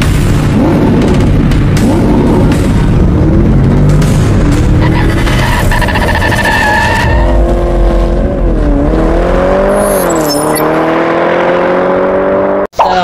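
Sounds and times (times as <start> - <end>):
race car engine revving: 0.0 - 12.7.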